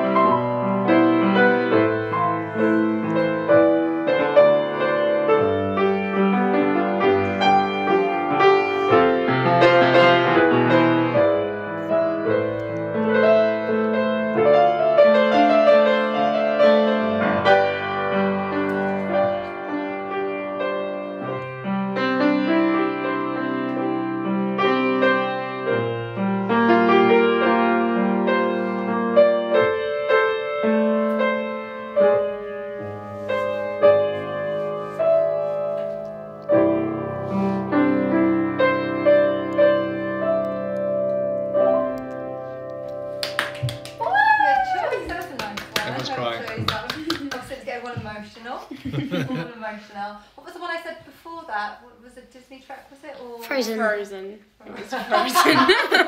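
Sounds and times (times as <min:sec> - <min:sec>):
solo grand piano: 0:00.0 - 0:48.2.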